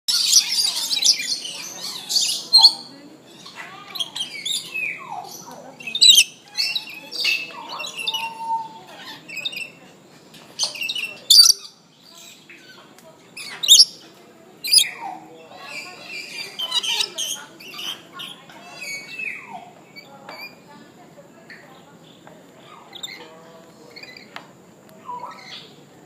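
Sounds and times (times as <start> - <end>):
birds squawking and chirping: 0.1 - 20.8, 21.5 - 24.4, 25.0 - 26.0.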